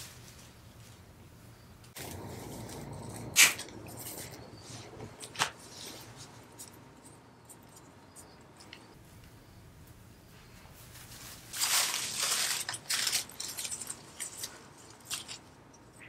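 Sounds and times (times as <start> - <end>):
leafy stems rustling: 0.0 - 16.0.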